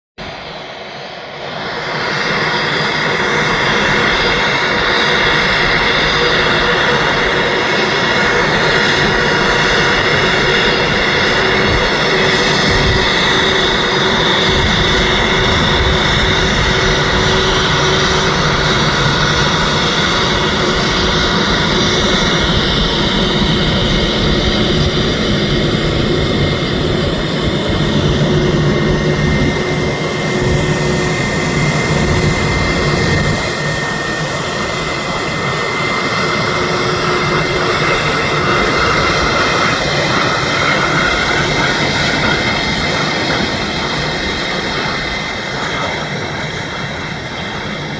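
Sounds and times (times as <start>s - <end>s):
jet engines whining at taxi power: 0.2s - 47.9s.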